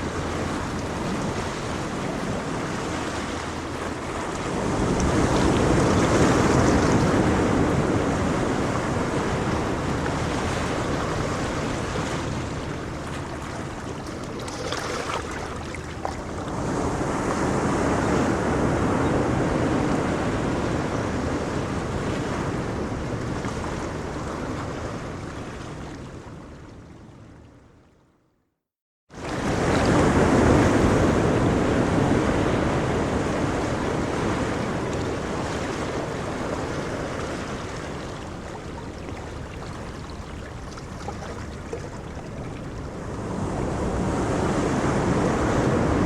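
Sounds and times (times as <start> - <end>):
sea waves washing on shore: 0.0 - 26.6, 29.2 - 46.0.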